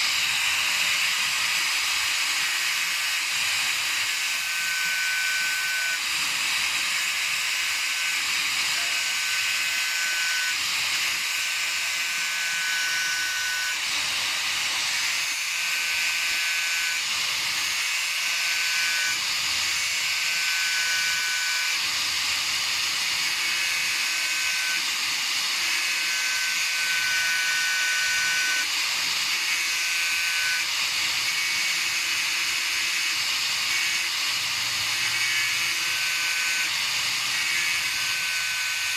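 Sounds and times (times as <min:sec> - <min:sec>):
power drill hissing: 0:00.0 - 0:38.9.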